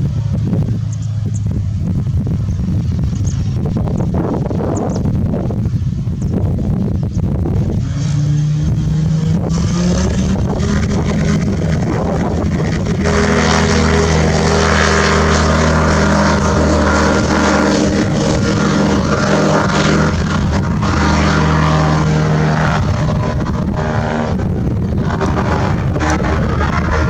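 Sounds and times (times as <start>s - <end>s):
ultralight aeroplane engine running: 0.0s - 27.0s.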